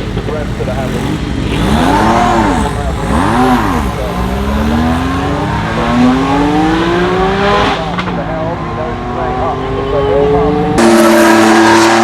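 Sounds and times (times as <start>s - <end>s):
racing engine revving and accelerating: 0.1s - 12.0s.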